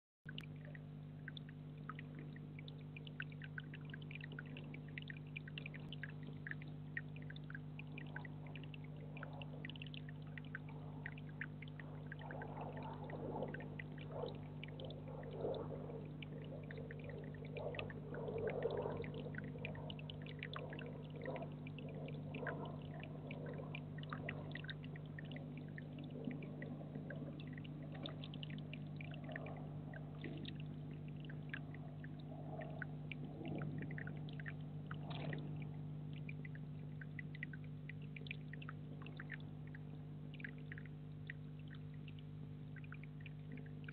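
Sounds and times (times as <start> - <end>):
low hum: 0.3 - 43.9
water dripping: 0.3 - 43.9
water splashing into pond: 0.3 - 43.9.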